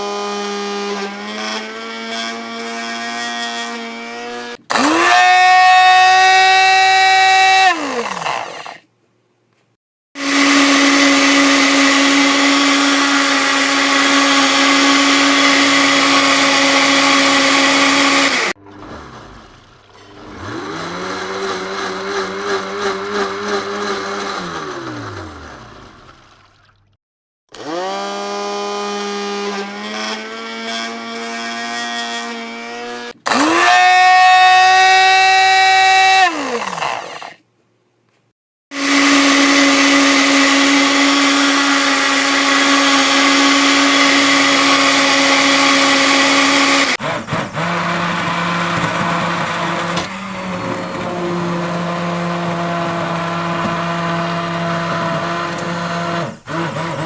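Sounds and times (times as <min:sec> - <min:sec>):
electric blender motor running: 0:00.0 - 0:08.8, 0:10.2 - 0:26.6, 0:27.5 - 0:37.4, 0:38.7 - 0:57.0.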